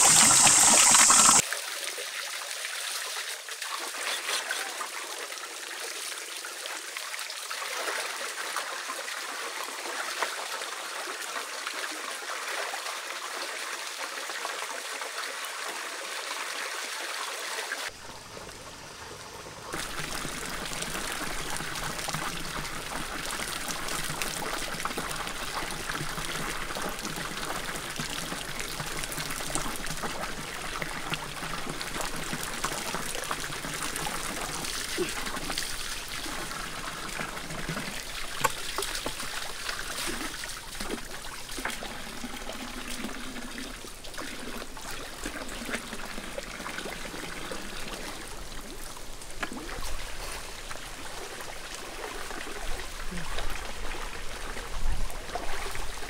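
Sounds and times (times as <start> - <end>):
water trickling into pool: 0.0 - 15.8, 17.6 - 56.0.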